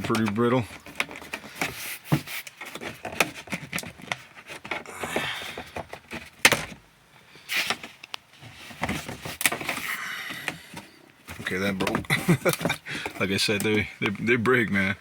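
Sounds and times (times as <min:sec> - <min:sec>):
plastic grille clicking and scraping: 0:00.0 - 0:06.8, 0:07.6 - 0:14.9.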